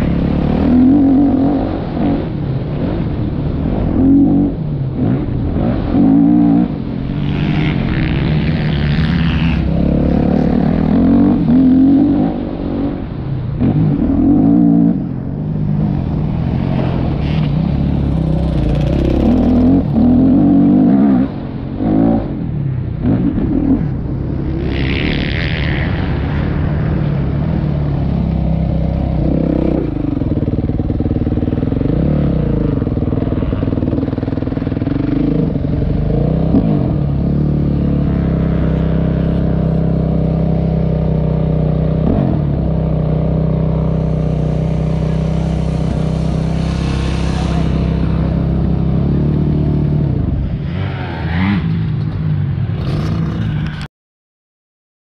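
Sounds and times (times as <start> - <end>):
dirt bike engine revving: 3.7 - 15.0, 16.3 - 22.4, 23.1 - 52.1.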